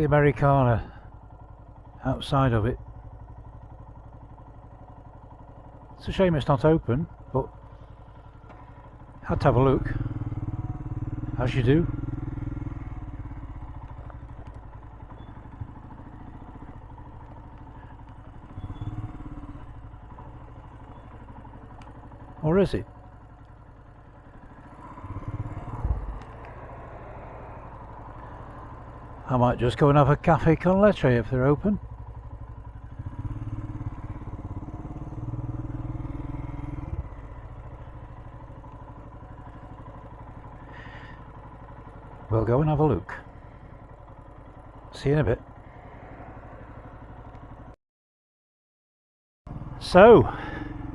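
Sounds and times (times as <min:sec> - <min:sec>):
motorcycle engine idling: 0:00.0 - 0:47.8, 0:49.5 - 0:50.9.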